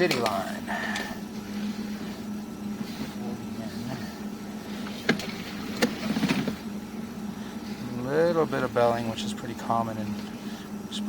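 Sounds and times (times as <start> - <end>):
inspection camera low hum: 0.0 - 11.0.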